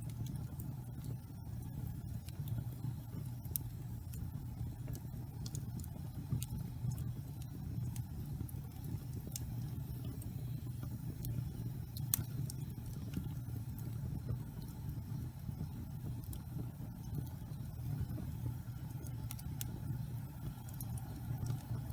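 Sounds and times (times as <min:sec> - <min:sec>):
fire rumbling in fireplace: 0:00.0 - 0:21.9
wood crackling and popping: 0:00.0 - 0:21.9.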